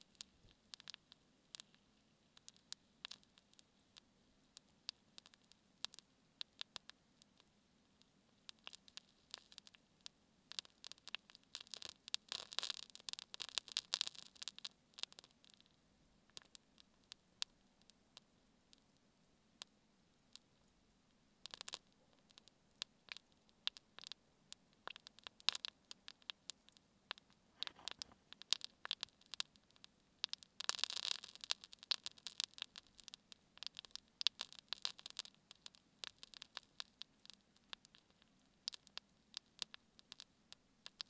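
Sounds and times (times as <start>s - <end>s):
candle crackling: 0.0s - 41.0s.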